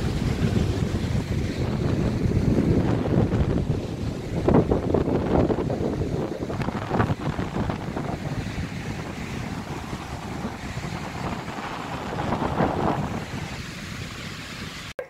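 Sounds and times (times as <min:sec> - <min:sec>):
strong wind buffeting microphone: 0:00.0 - 0:15.0
surf breaking on beach: 0:00.0 - 0:15.0.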